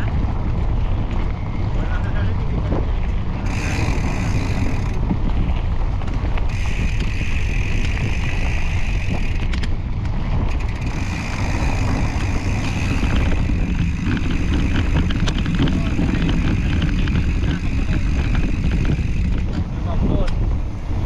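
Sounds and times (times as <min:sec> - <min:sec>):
bike freehub buzzing: 0:00.0 - 0:21.0
bike rattling over bumps: 0:00.0 - 0:21.0
heavy low rumble: 0:00.0 - 0:21.0
wind buffeting microphone: 0:00.0 - 0:21.0.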